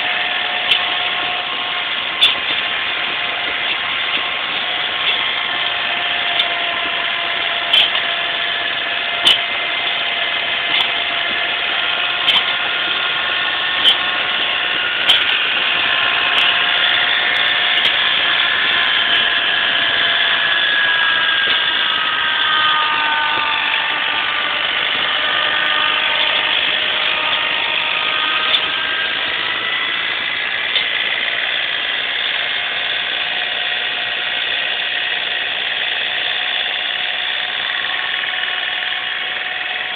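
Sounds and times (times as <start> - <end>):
engine running: 0.0 - 39.9
whine: 0.0 - 39.9.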